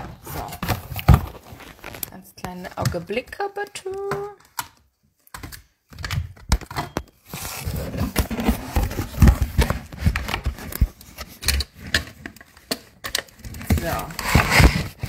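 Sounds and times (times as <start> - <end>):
phone handling rubbing and rustling: 0.0 - 2.6, 5.3 - 15.0.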